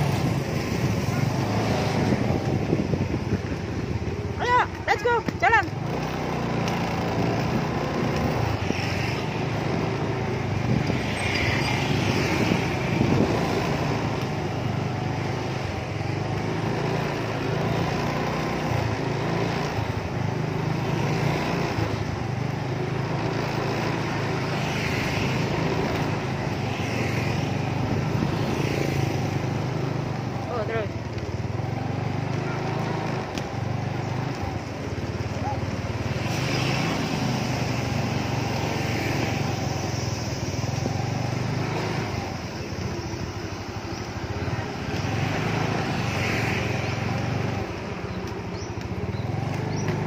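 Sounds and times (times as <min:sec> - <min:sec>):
motorcycles and cars passing: 0:00.0 - 0:50.0
wheels rolling on asphalt: 0:00.0 - 0:50.0.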